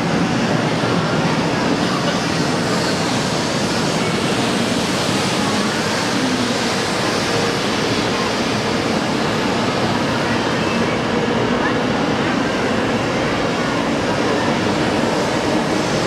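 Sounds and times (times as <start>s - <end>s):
high-speed train rushing past: 0.0s - 16.0s.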